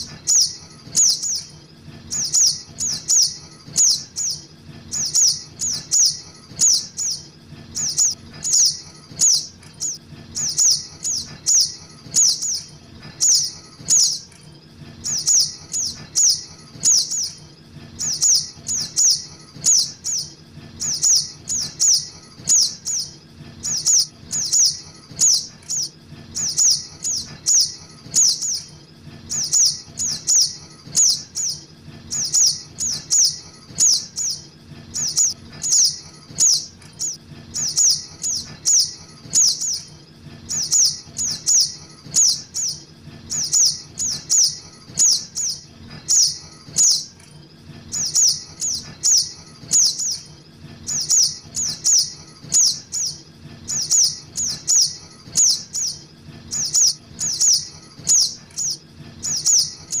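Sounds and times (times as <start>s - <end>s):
high downward bird chirps: 0.0s - 14.4s, 15.0s - 47.2s, 47.9s - 60.0s
faint low hum: 0.0s - 60.0s.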